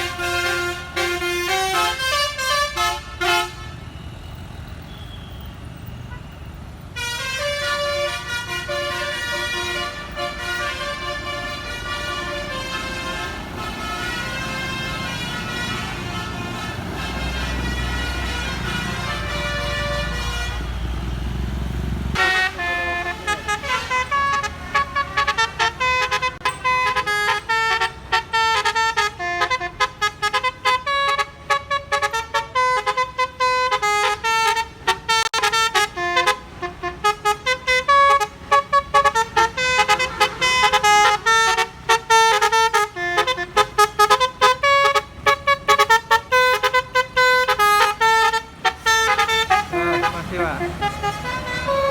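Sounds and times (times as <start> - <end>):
bus musical horn playing a tune: 0.0 - 4.2, 4.8 - 21.1, 22.2 - 51.9.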